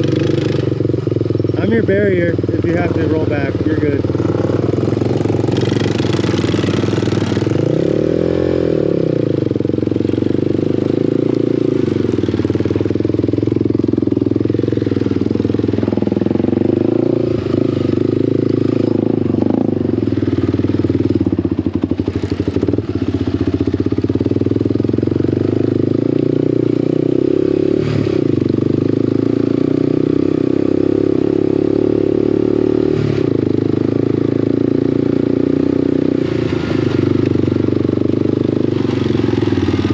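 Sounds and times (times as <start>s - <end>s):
off-road vehicle engine: 0.0s - 39.9s.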